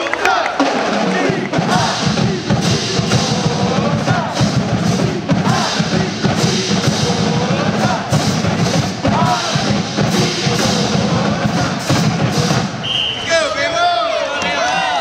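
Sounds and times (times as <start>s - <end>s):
marching band drum beat: 0.0s - 13.0s
crowd voices: 0.0s - 15.0s.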